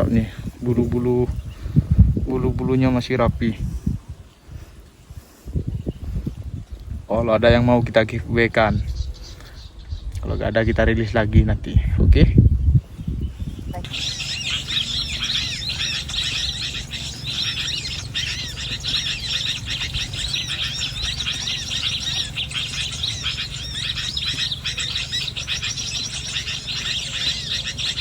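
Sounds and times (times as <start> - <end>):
small birds chirping and twittering: 0.0 - 28.0
steady low hum: 0.0 - 28.0.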